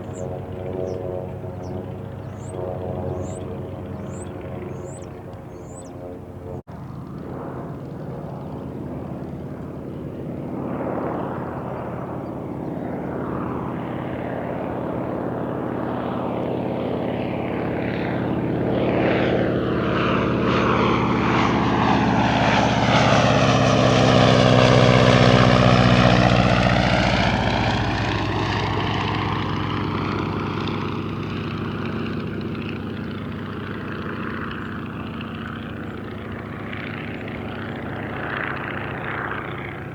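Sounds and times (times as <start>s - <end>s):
propeller plane passing by: 0.0s - 39.9s.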